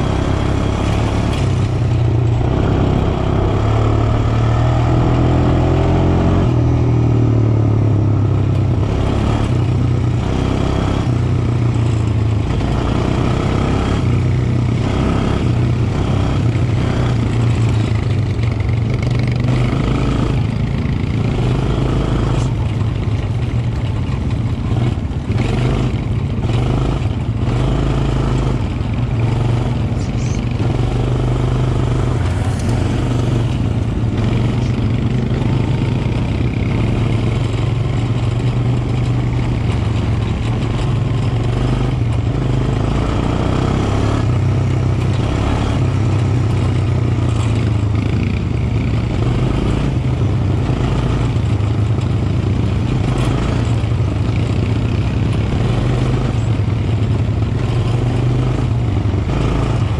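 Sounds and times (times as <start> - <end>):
quad bike engine running: 0.0 - 59.9
quad bike rattling over bumps: 0.0 - 59.9.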